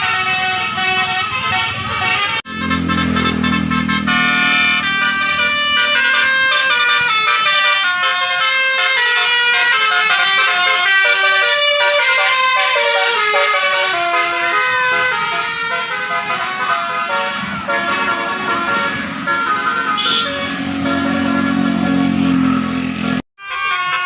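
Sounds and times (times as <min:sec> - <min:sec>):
bus air horn playing a melody: 0:00.0 - 0:24.0.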